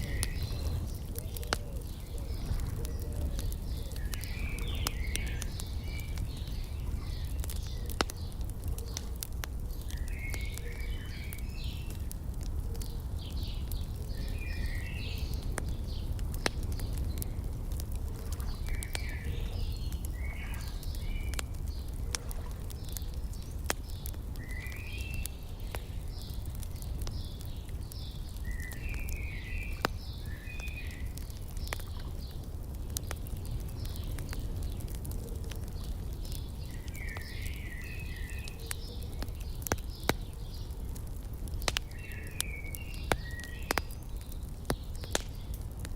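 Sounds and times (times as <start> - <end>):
songbird chirping: 0.0 - 35.0, 35.7 - 40.8, 41.6 - 45.5
wood fire crackling and popping: 0.0 - 45.9.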